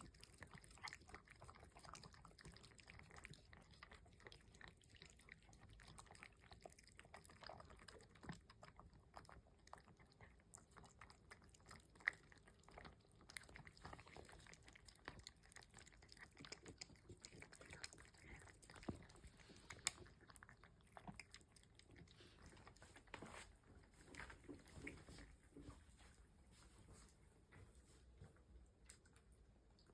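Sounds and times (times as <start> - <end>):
cats chewing and crunching: 0.0 - 29.9.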